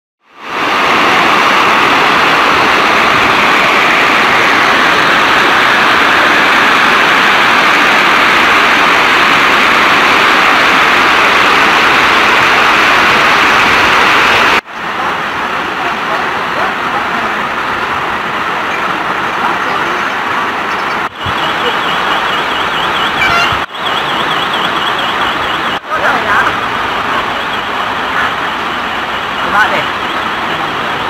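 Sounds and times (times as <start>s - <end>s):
turbulent floodwater rushing: 0.2s - 31.0s.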